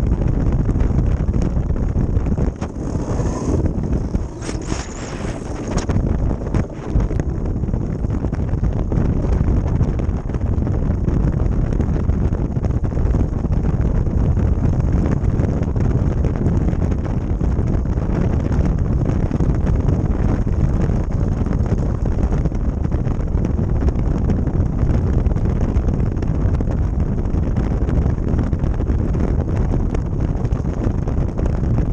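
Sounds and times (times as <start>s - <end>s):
wind on microphone: 0.0s - 31.9s.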